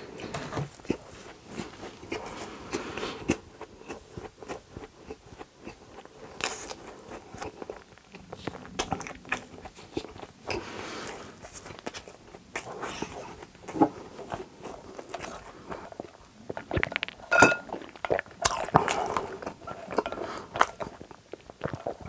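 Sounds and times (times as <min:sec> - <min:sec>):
chewing doughnut: 0:00.1 - 0:22.0.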